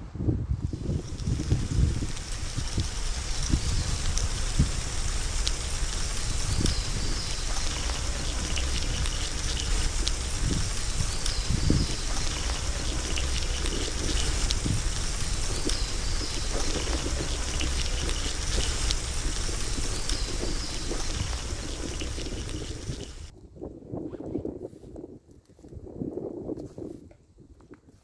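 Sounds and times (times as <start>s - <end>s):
low rumble: 0.6s - 23.3s
rain pattering on leaves: 0.7s - 23.3s.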